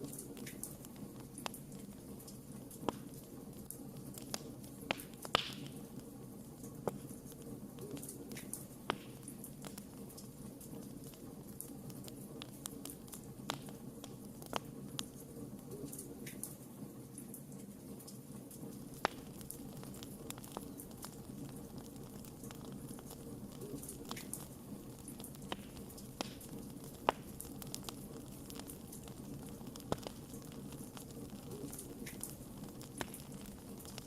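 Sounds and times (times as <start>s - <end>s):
logs crackling and popping: 0.0s - 34.0s
low rush of flames: 0.0s - 34.0s.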